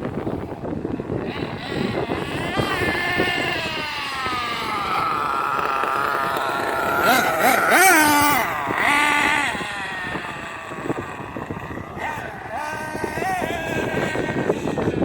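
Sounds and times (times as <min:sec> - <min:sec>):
wind buffeting microphone: 0:00.0 - 0:15.0
rc truck engine revving: 0:00.1 - 0:15.0.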